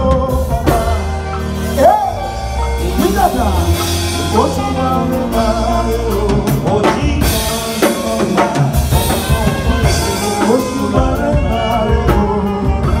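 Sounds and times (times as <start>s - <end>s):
heavy bass line: 0.0s - 13.0s
keyboard: 0.0s - 13.0s
man singing into microphone: 0.0s - 13.0s.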